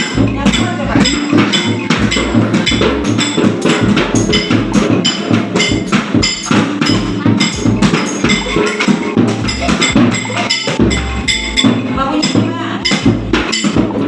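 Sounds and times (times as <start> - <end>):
clatter of percussion strikes: 0.0 - 14.0
low drum thuds: 0.0 - 14.0.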